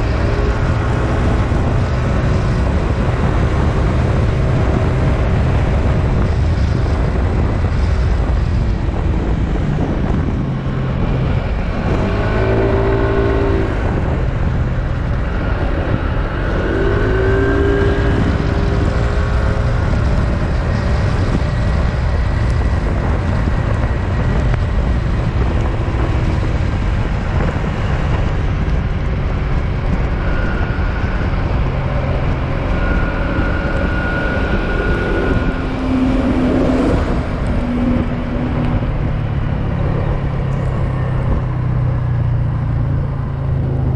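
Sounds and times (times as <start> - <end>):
wind rush on microphone: 0.0 - 43.9.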